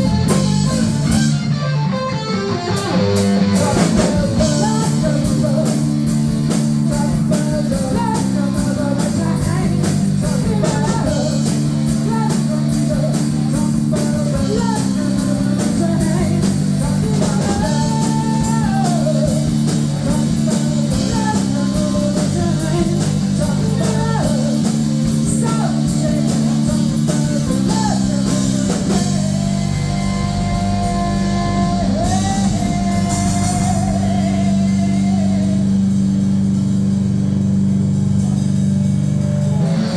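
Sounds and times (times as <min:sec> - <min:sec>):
drums with steady beat: 0:00.0 - 0:39.9
guitar: 0:00.0 - 0:39.9
rock singer: 0:00.0 - 0:39.9.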